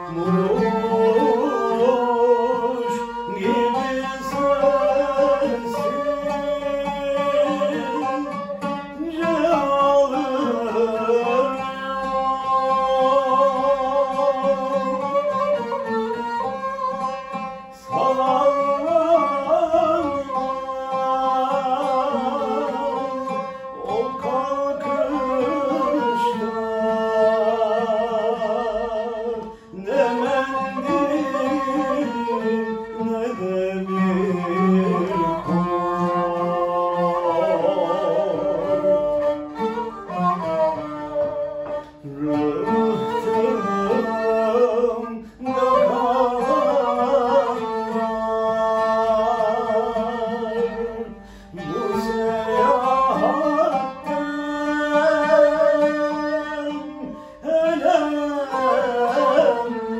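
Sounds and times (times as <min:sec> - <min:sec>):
man singing: 0:00.0 - 0:59.9
plucked oud: 0:00.0 - 0:59.9.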